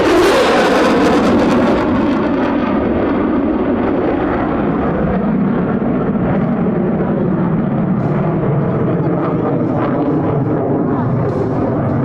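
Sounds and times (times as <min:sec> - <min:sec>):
jet engine roar in flight: 0:00.0 - 0:12.0.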